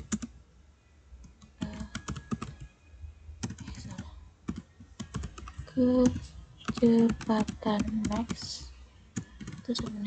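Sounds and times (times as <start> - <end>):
computer keyboard typing: 0.0 - 0.3, 1.2 - 2.7, 3.4 - 10.0.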